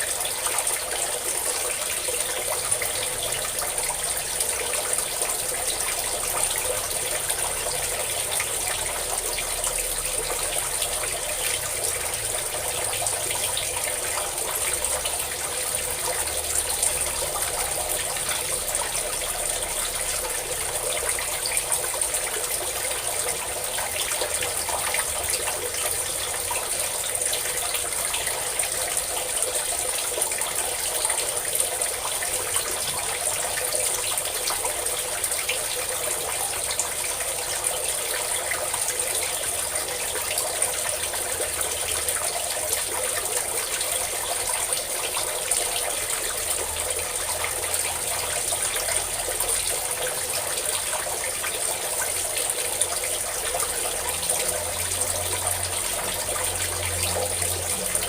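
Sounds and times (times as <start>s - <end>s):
water pouring and splashing: 0.0s - 58.0s.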